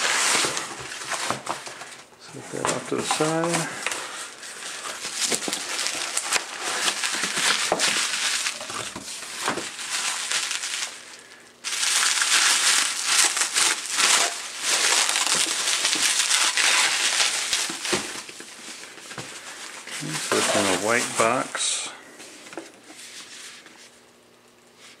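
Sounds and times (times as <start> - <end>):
bubble wrap crinkling: 0.0 - 24.1.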